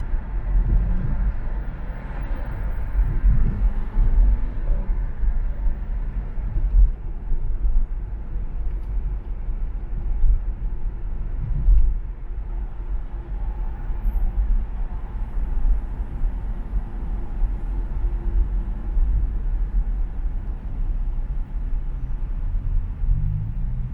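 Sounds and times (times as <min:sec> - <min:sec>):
car tyres and engine rumbling: 0:00.0 - 0:23.9.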